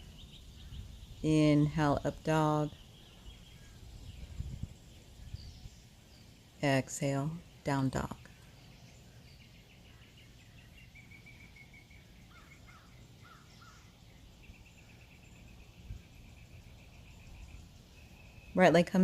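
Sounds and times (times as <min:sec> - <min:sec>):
birdsong trills: 0:00.0 - 0:19.0.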